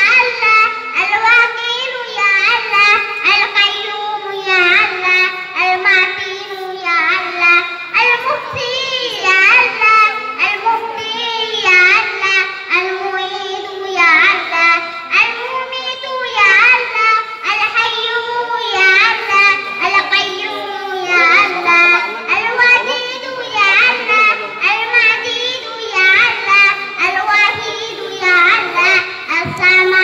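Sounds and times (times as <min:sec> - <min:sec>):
girl singing into microphone: 0:00.0 - 0:30.0.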